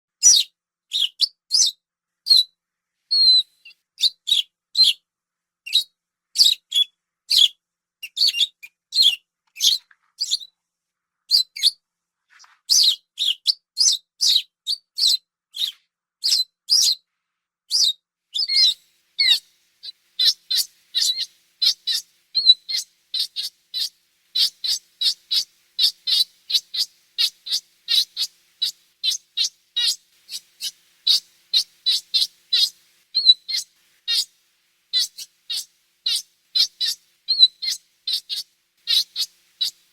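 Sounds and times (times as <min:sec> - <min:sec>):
otter chirping: 0:00.2 - 0:02.5, 0:03.1 - 0:05.0, 0:05.7 - 0:10.5, 0:11.3 - 0:17.0, 0:17.7 - 0:39.9.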